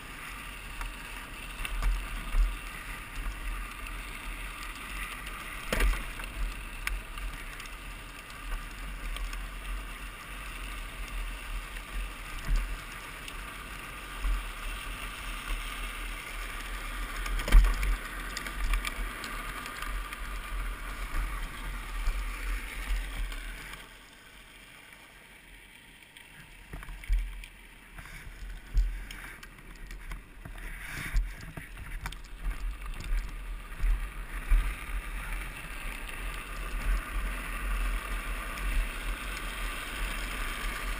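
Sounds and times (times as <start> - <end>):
plastic wheels rolling on asphalt: 0.0 - 40.9.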